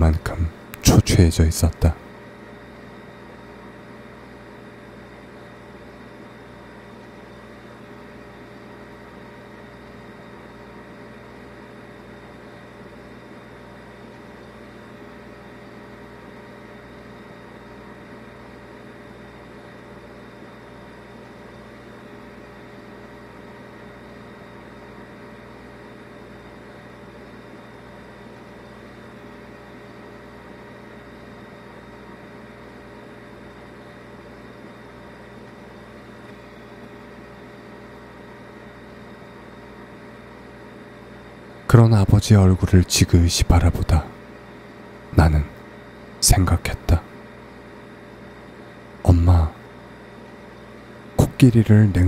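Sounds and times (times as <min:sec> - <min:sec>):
steady hum: 0:00.0 - 0:52.0.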